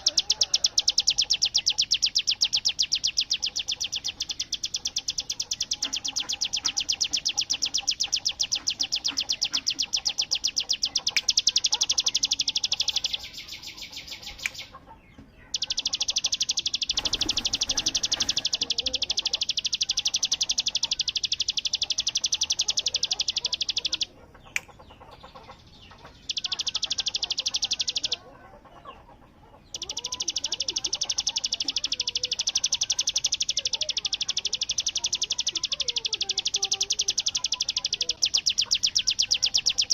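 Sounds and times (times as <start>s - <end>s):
faint bird chirps: 0.0s - 39.9s
songbird buzzing rattle song: 0.0s - 39.9s.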